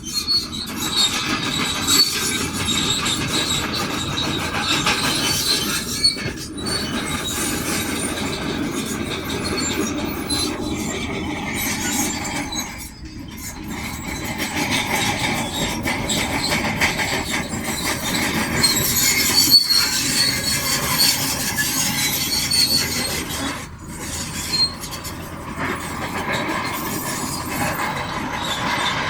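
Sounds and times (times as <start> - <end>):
bulldozer engine running: 0.0 - 29.0
steel tracks squealing: 0.0 - 29.0.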